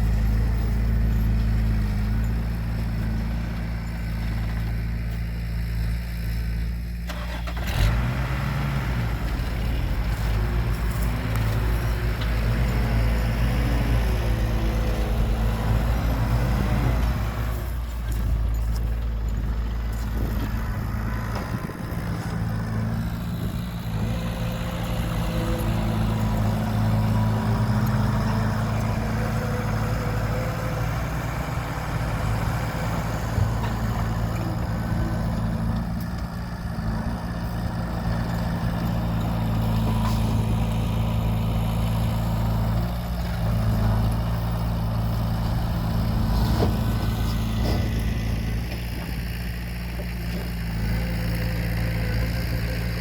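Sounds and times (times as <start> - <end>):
heavy diesel engines under load: 0.0 - 53.0.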